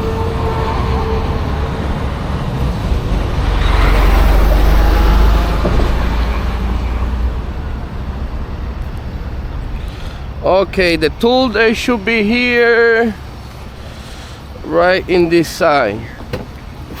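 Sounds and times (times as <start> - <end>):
road traffic rumbling: 0.0 - 17.0
vehicle passing: 0.0 - 17.0.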